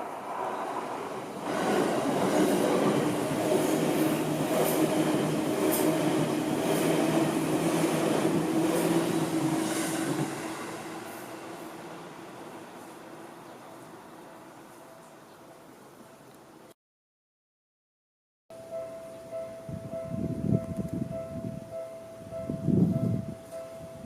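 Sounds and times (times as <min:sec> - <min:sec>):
electric train passing: 0:00.0 - 0:15.1, 0:18.6 - 0:24.0.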